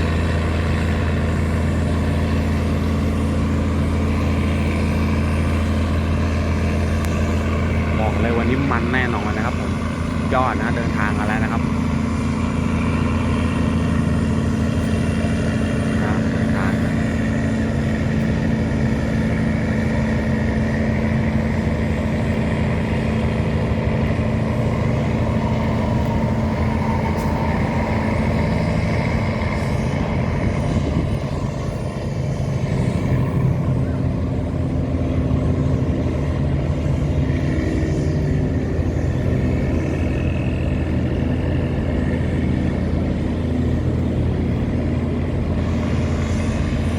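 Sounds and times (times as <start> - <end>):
tugboat engine droning: 0.0 - 46.9.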